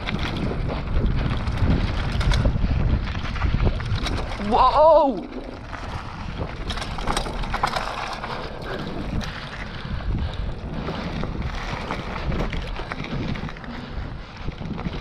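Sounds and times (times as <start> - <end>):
bike rattling over bumps: 0.0 - 15.0
wind rush on microphone: 0.0 - 15.0.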